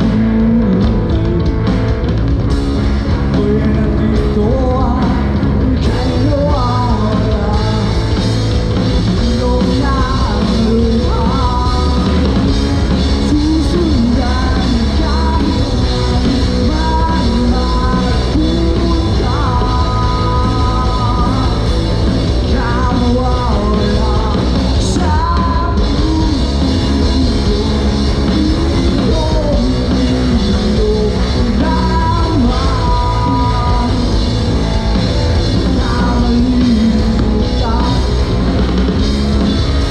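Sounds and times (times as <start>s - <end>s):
live rock band playing: 0.0s - 39.9s
person singing: 3.1s - 8.4s, 9.0s - 38.9s.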